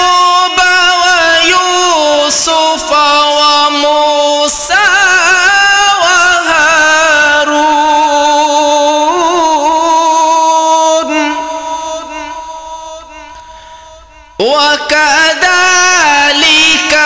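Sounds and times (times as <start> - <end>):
person reciting in melodic voice: 0.0 - 17.0.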